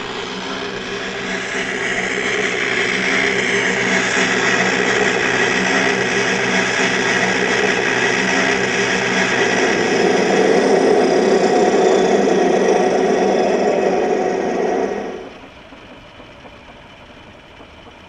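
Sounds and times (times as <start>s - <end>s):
simulated turbine engine sound: 0.0s - 18.0s.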